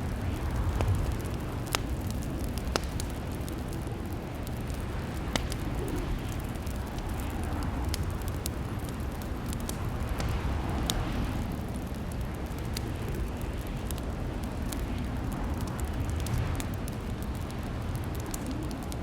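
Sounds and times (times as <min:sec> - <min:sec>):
fireplace fire crackling: 0:00.0 - 0:19.0
sharp pops of fire: 0:00.0 - 0:19.0.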